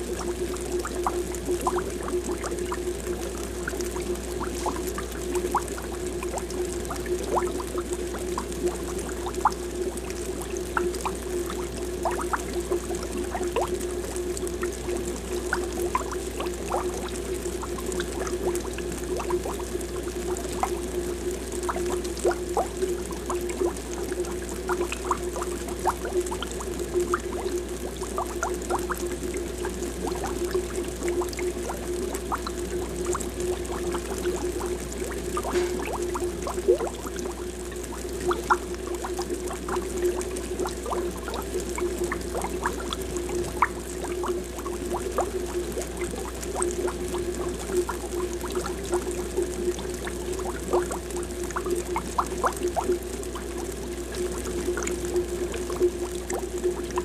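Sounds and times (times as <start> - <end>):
aquarium bubbles gurgling: 0.0 - 57.0
steady hum: 0.0 - 57.0.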